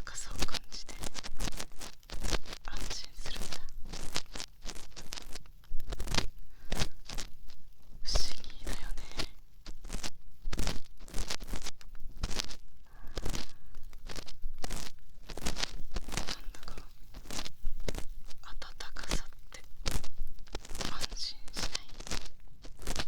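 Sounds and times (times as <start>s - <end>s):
ear pick scraping inside ear: 0.0s - 23.0s.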